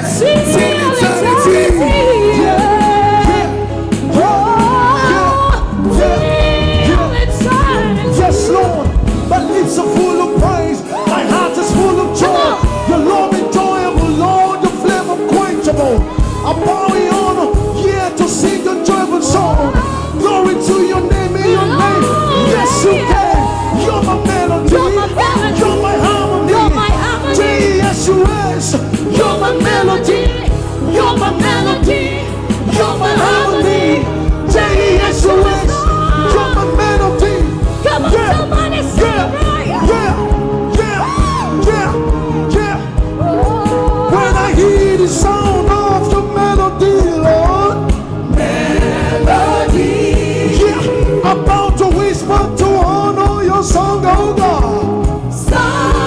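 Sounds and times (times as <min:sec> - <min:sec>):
gospel singing over a band: 0:00.0 - 0:56.0
steady drum beat: 0:00.0 - 0:56.0.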